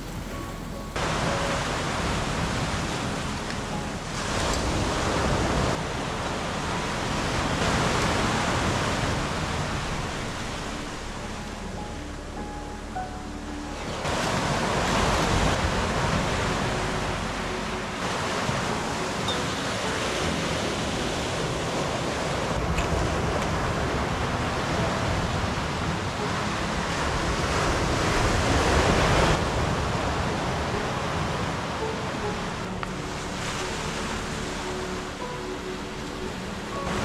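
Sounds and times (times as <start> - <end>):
waves breaking on beach: 0.0 - 37.0.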